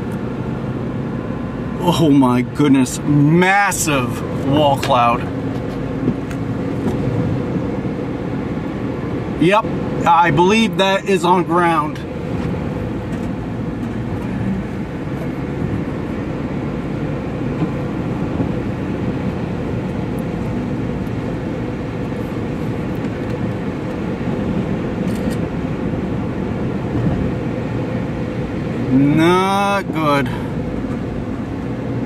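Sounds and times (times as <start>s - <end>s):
car road and engine rumble: 0.0s - 32.0s.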